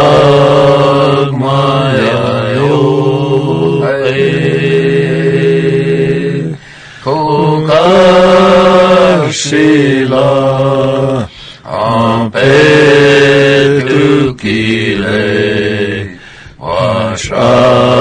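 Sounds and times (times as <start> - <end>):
chanted singing: 0.0 - 18.0.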